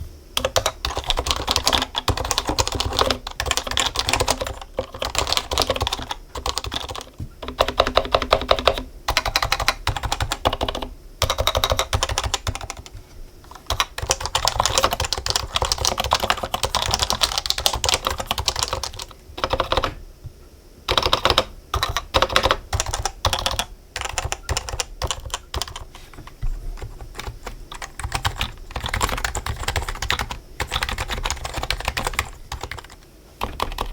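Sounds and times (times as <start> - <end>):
fast typing on keyboard: 0.4 - 20.0, 20.9 - 33.9.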